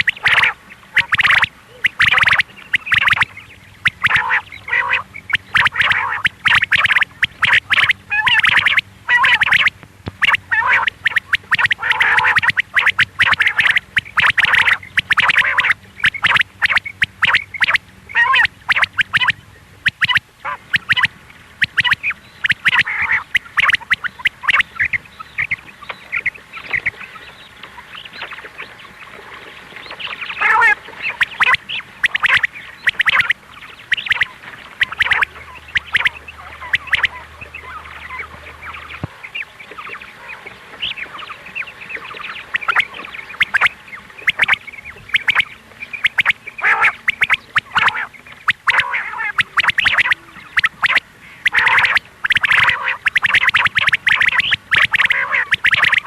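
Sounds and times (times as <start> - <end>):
quail calling: 0.0 - 28.9, 29.7 - 56.0.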